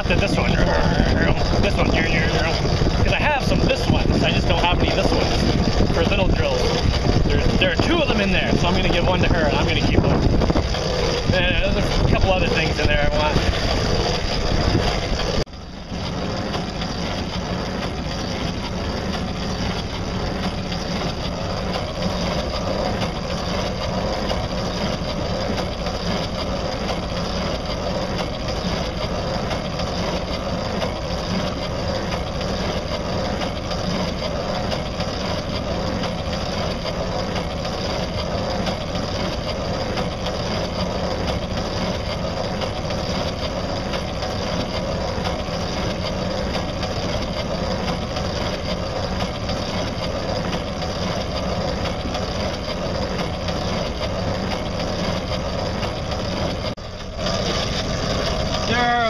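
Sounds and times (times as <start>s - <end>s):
boat motor running: 0.0s - 59.0s
water noise: 0.0s - 59.0s
wind: 0.0s - 59.0s.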